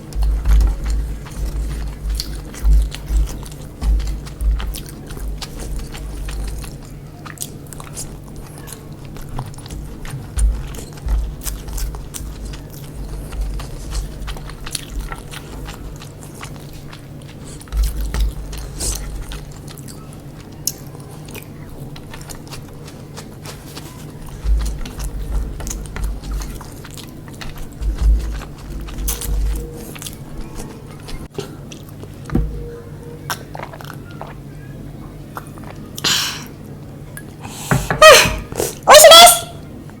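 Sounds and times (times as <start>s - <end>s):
chewing food: 0.0s - 40.0s.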